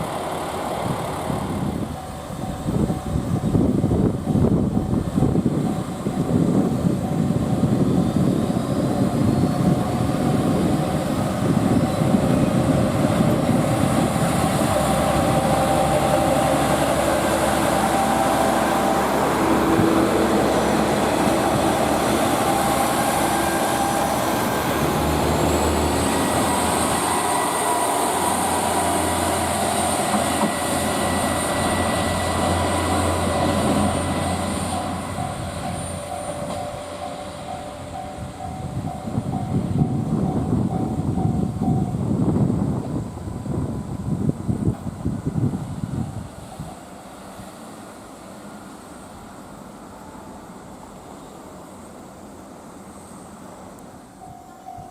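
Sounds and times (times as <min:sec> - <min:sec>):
train wheels rumbling on rails: 0:00.0 - 0:54.9
train whining tones: 0:00.0 - 0:54.9.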